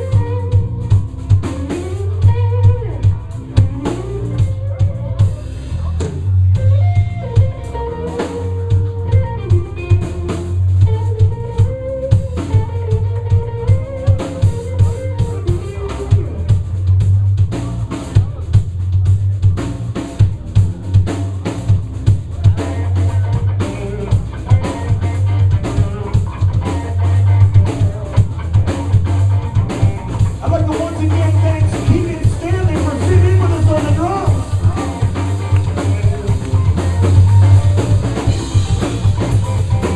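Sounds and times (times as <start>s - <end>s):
electric guitar lines: 0.0s - 18.6s, 19.8s - 39.9s
drum kit beat: 0.0s - 39.9s.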